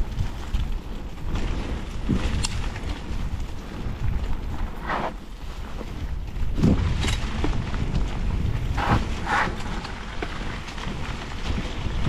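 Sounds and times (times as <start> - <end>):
bike rolling over dry leaves: 0.0 - 12.0
wind rumble on microphone: 0.0 - 12.0.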